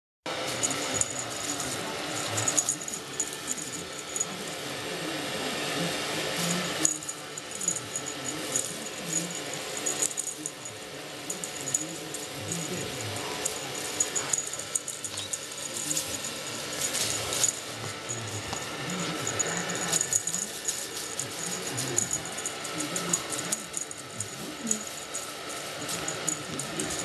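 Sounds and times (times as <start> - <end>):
tinsel toy rustling and crinkling: 0.4 - 27.0.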